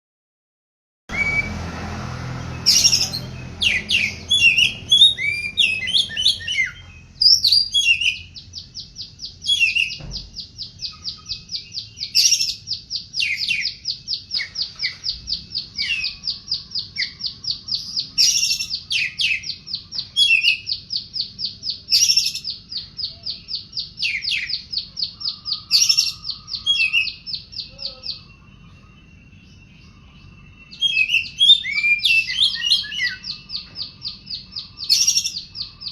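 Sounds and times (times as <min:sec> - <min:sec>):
bird singing whistled phrases: 0:01.1 - 0:01.6, 0:02.6 - 0:35.9.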